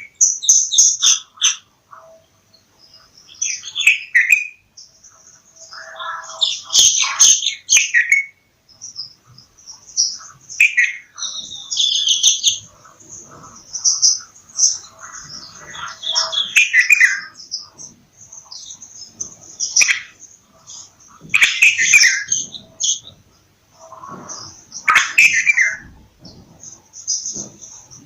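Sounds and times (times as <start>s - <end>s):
birds chirping and trilling: 0.0s - 28.0s.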